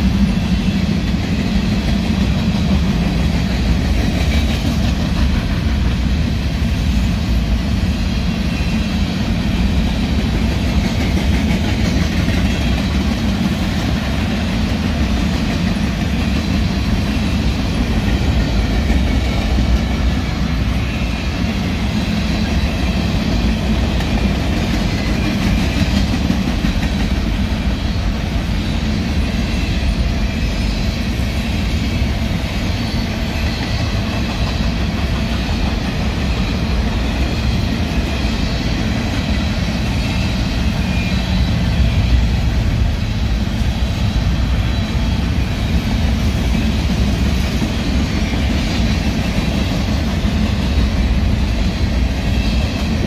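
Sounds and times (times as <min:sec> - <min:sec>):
freight train wheels rumbling on rails: 0:00.0 - 0:53.0.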